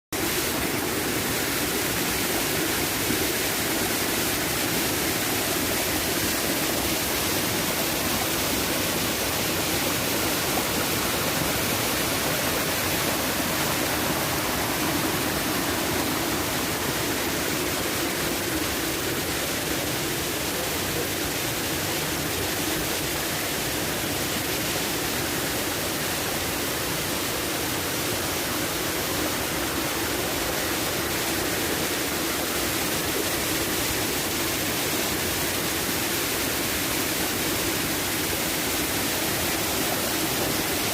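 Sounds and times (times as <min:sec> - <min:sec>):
waterfall rushing: 0:00.2 - 0:40.9.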